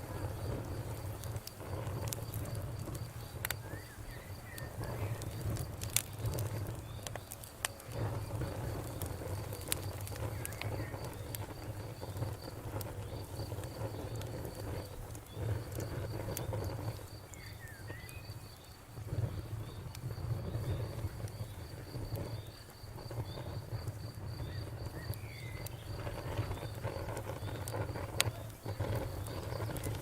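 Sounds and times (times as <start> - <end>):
campfire crackling: 0.0 - 30.0
insect chirping: 0.0 - 30.0.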